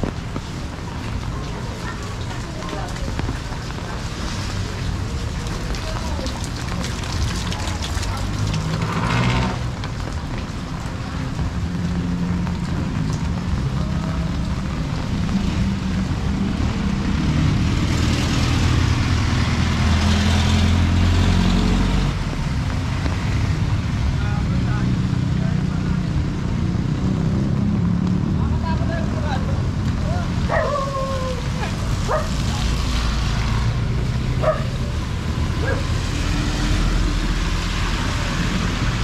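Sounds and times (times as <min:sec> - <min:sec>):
rain: 0:00.0 - 0:39.0
street noise: 0:00.0 - 0:39.0.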